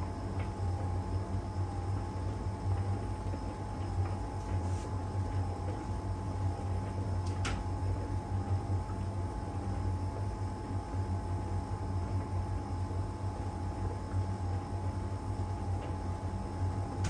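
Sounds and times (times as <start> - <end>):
dryer humming and whining: 0.0 - 17.0.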